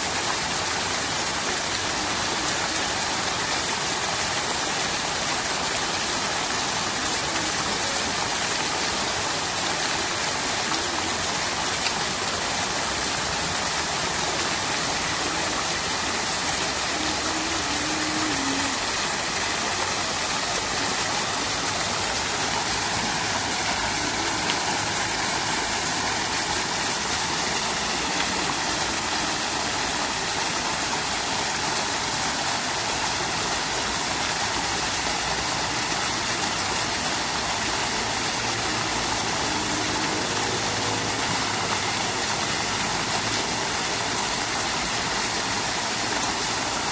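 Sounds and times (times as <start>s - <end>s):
fountain water splashing: 0.0s - 46.9s.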